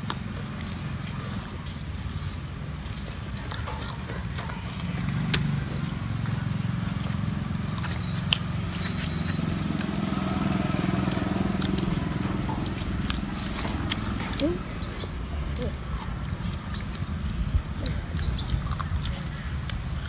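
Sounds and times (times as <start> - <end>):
chewing and crunching: 0.0 - 20.0.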